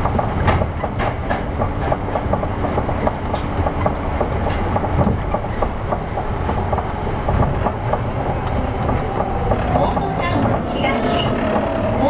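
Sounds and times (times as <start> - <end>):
train rumbling inside car: 0.0 - 12.0.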